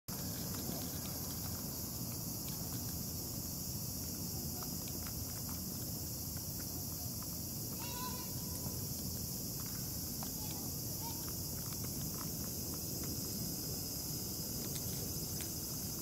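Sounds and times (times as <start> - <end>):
high-pitched insect chorus: 0.1 - 16.0.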